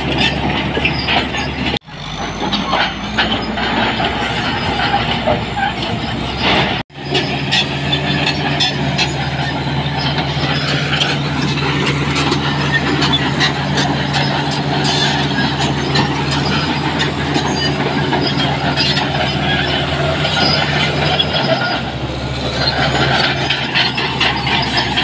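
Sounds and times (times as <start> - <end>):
diesel engine running under load: 0.0 - 25.0
steel tracks clanking: 0.0 - 25.0.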